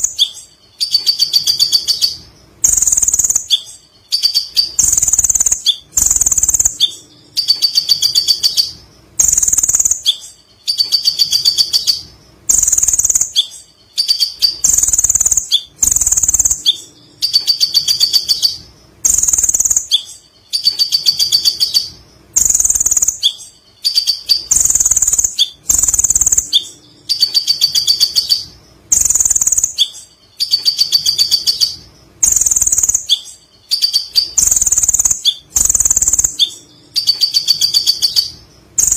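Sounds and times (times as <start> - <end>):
sunbird chattering song: 0.0 - 38.9.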